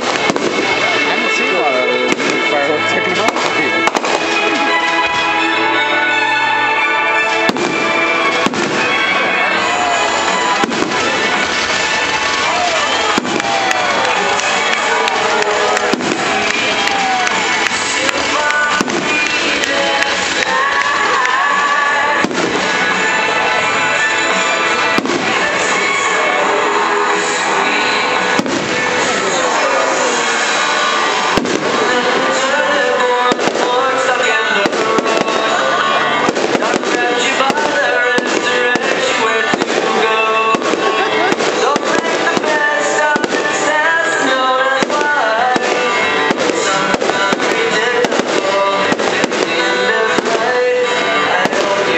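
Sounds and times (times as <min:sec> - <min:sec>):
fireworks bangs: 0:00.0 - 0:51.9
music with long held notes: 0:00.0 - 0:51.9.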